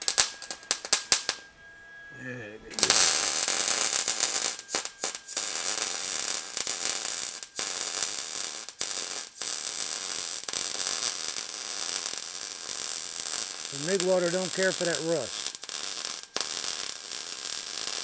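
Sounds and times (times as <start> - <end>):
welding arc running: 2.8 - 18.0.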